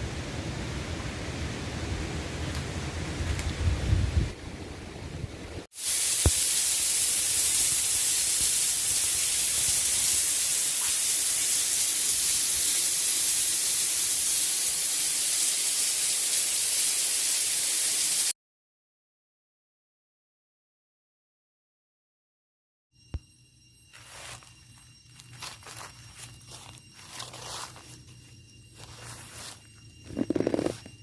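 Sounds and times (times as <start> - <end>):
loud steady hiss: 0.0 - 18.3, 23.7 - 31.0.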